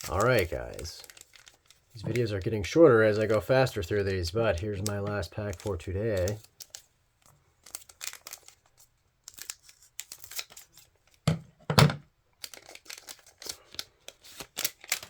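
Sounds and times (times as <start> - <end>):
wrapper tearing and crinkling: 0.0 - 6.9, 7.5 - 11.2, 12.4 - 15.0.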